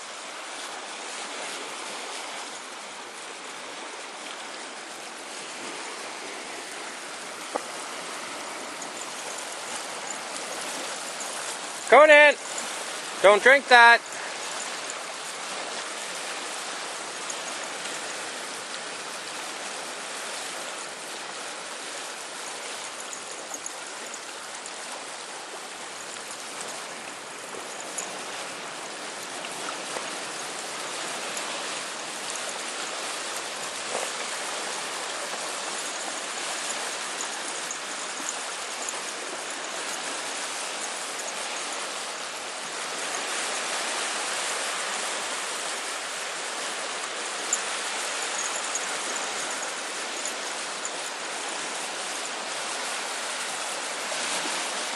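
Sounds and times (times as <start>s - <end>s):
waves lapping against stony shore: 0.0s - 54.9s.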